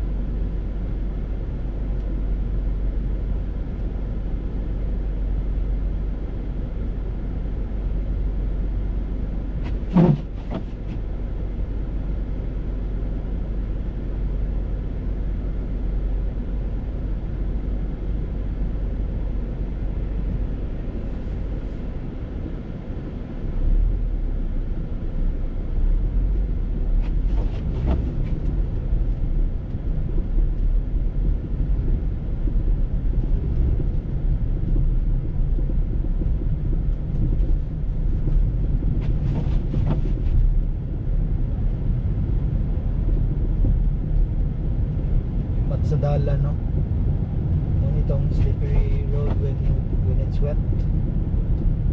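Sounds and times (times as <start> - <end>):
car driving on snowy road: 0.0 - 51.9.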